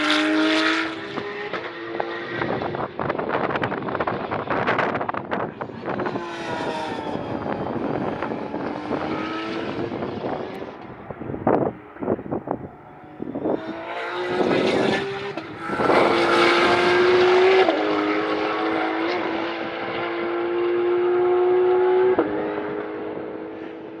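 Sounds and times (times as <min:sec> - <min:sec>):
car accelerating and upshifting: 0:00.0 - 0:24.0
race car engines revving: 0:00.0 - 0:24.0.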